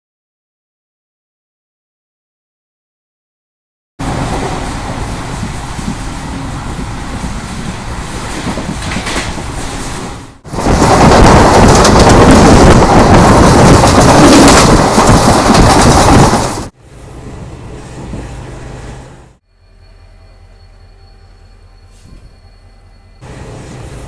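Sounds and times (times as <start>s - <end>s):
passenger train running rumble: 4.0s - 24.0s.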